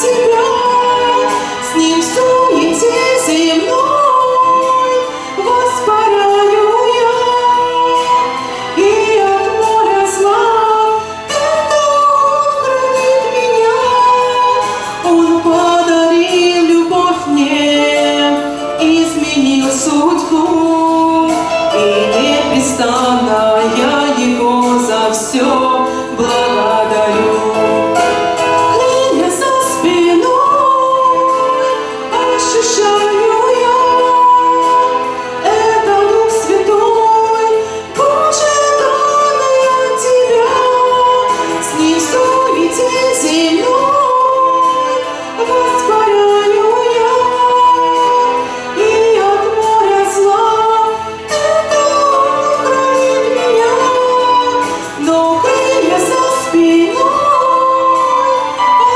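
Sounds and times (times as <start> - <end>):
woman singing church song: 0.0 - 58.9.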